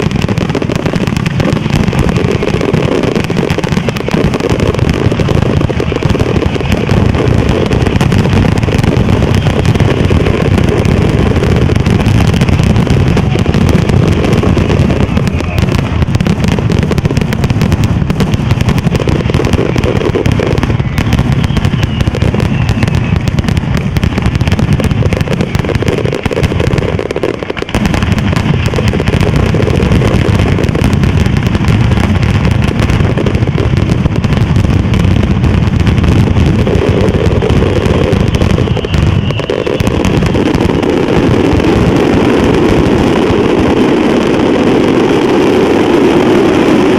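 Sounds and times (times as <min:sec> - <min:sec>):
firecrackers going off: 0:00.0 - 0:46.9.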